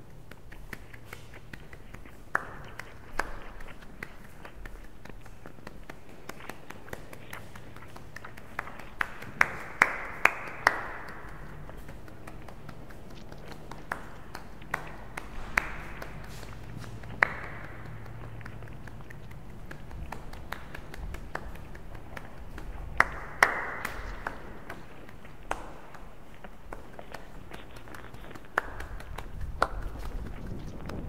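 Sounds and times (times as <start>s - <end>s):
faint low hum: 0.0s - 31.0s.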